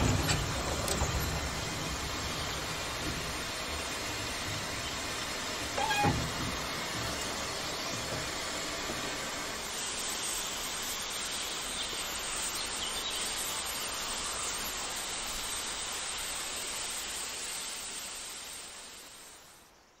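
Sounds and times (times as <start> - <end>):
steady hissing steam: 0.0 - 20.0.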